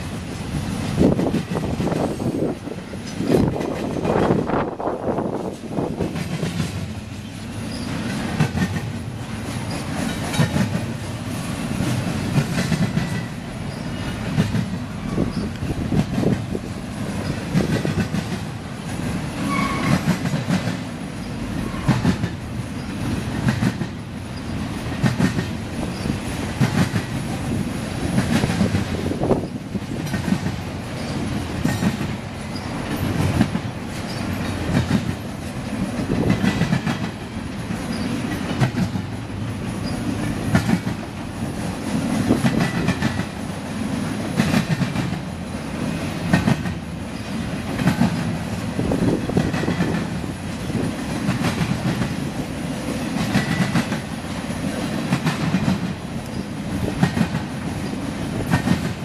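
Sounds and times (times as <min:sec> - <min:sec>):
freight train rumble: 0:00.0 - 0:59.0
train wheels clickety-clack: 0:00.0 - 0:59.0.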